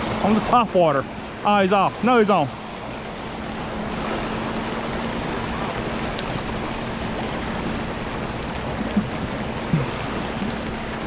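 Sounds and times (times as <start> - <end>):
surf breaking on beach: 0.0 - 11.0.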